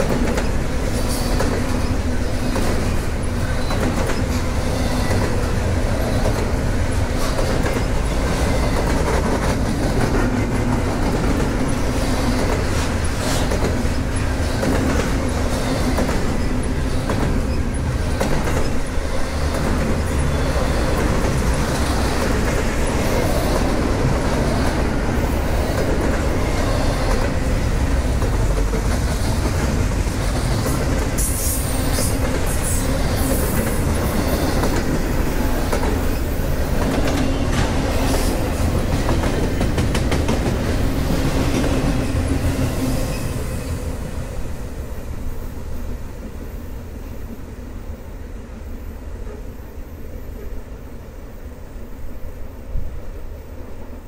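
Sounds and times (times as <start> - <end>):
wheels clacking over rail joints: 0.0 - 43.4
freight train rumbling past: 0.0 - 54.0.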